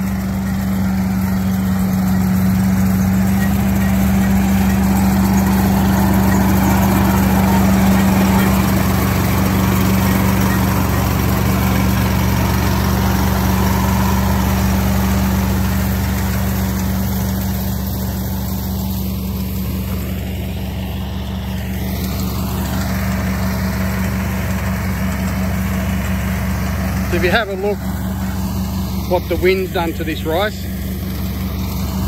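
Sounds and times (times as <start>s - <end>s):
combine harvester engine drone: 0.0s - 32.0s
harvester mechanical noise: 0.0s - 32.0s.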